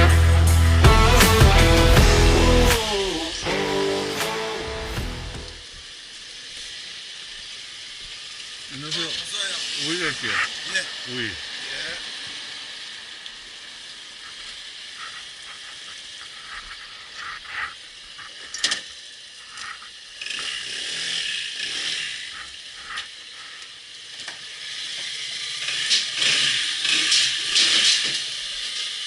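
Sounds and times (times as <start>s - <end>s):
hiss: 2.5s - 29.0s.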